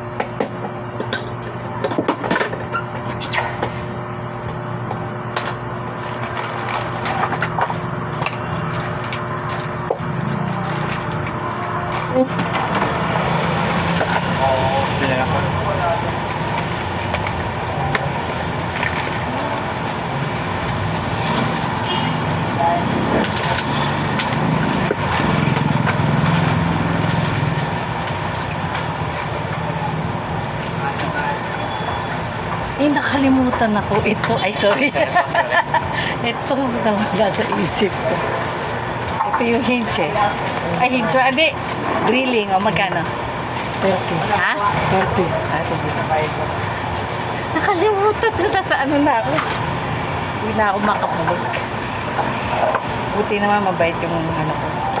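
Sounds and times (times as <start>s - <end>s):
street background hum: 0.0s - 55.0s.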